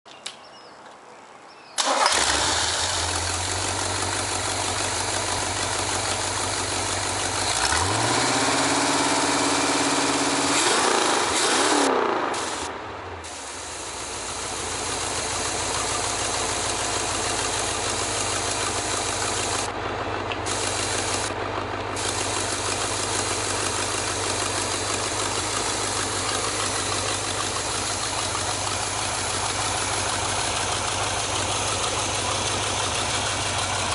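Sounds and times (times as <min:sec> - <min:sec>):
truck engine starting and revving: 0:01.8 - 0:33.9.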